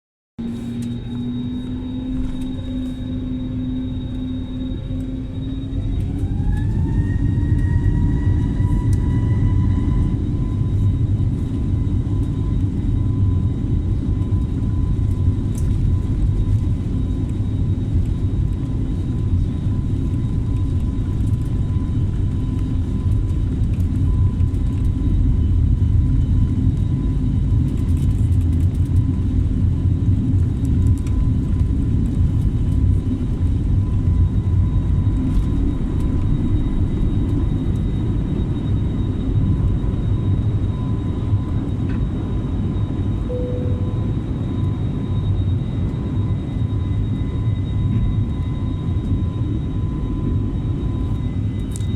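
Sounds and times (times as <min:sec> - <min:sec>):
engine low rumble: 0:00.4 - 0:51.9
jet engine whine: 0:00.4 - 0:51.9.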